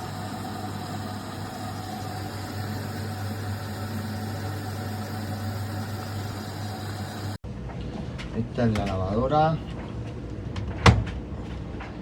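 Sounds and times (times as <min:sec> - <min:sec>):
washing machine hum and rattle: 0:00.0 - 0:12.0.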